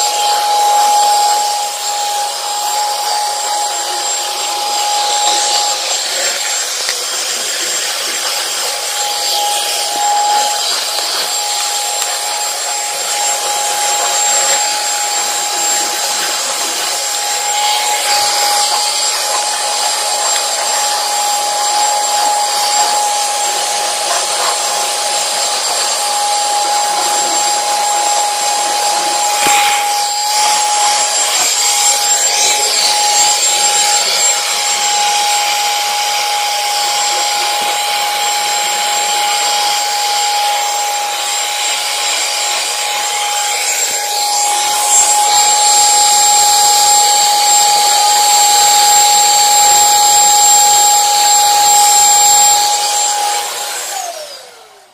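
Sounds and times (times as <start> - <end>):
vacuum cleaner whining: 0.0 - 54.9
vacuum nozzle rubbing carpet: 0.0 - 54.9.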